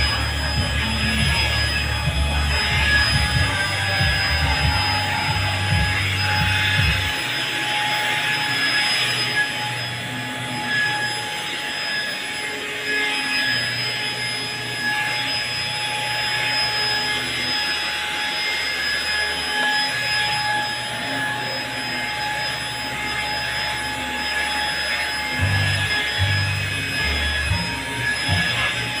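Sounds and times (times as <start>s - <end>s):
handheld vacuum cleaner running: 0.0s - 29.0s
vacuum nozzle on fabric: 0.0s - 29.0s.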